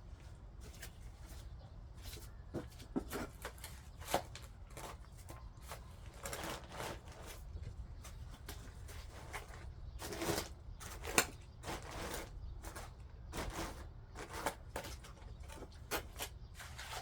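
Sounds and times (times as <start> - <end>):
garden tool scraping soil: 3.0 - 17.0.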